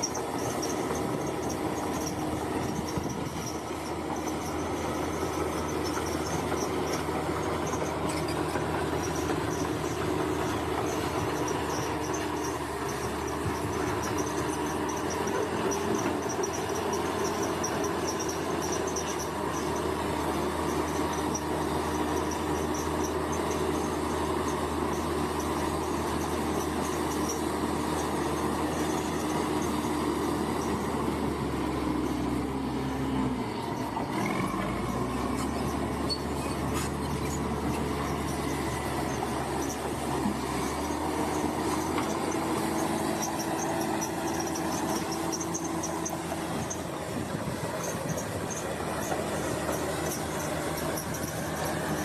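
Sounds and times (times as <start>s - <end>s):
bulldozer diesel engine running: 0.0s - 52.0s
steel tracks squeaking: 0.0s - 52.0s.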